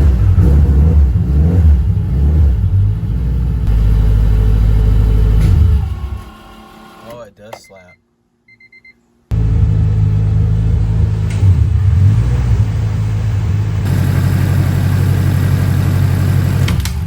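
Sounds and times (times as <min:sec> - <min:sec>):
car engine running: 0:00.0 - 0:06.3, 0:09.3 - 0:17.0.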